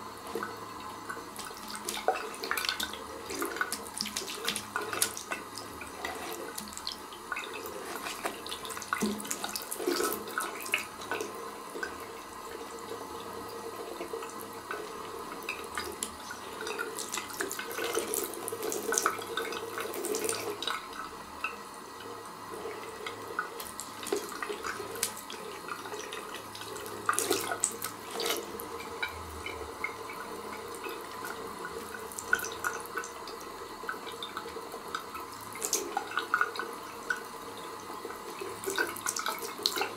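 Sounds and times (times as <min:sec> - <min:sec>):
tap water running into bowl: 0:00.0 - 0:39.9
water splashes and drips: 0:00.3 - 0:12.0, 0:14.0 - 0:21.6, 0:23.0 - 0:37.3.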